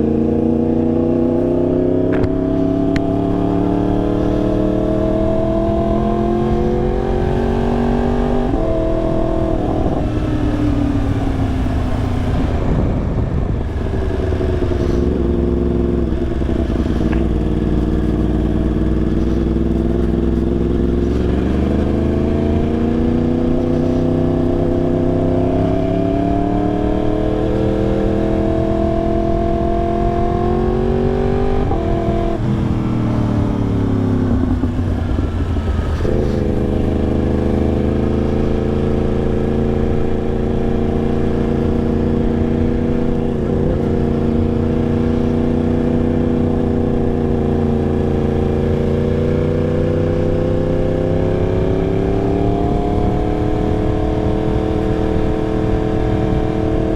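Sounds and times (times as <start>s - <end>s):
motorcycle engine shifting gears: 0.0s - 56.9s.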